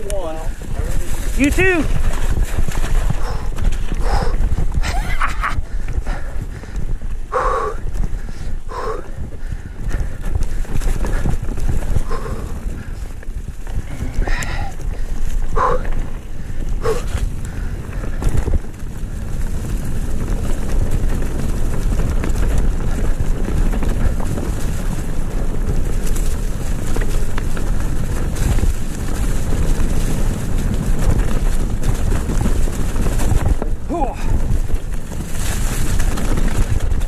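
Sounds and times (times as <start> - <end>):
tyres crunching over leaves and rocks: 0.0 - 7.1, 9.2 - 37.0
bike rattling: 0.0 - 37.0
wind buffeting microphone: 0.0 - 37.0.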